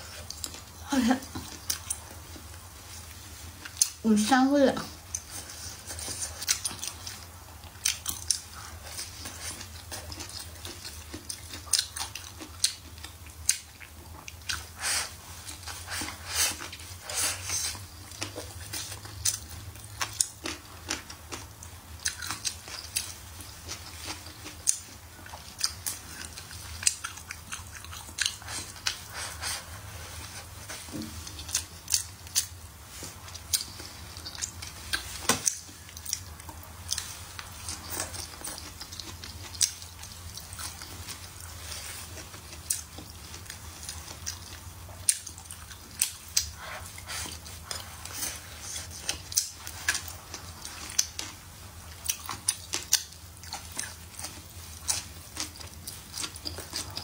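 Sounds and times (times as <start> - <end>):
close chewing and mouth smacks: 0.0 - 57.0.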